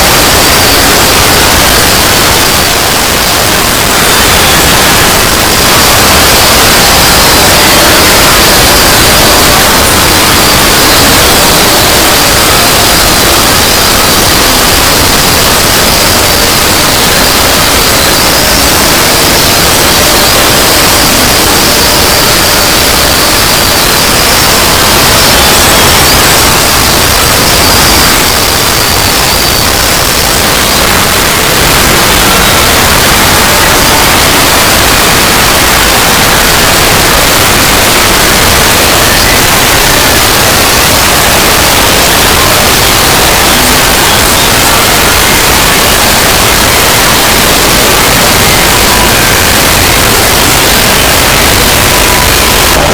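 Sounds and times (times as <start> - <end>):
faint high whine: 0.0 - 52.9
harsh static noise: 0.0 - 52.9.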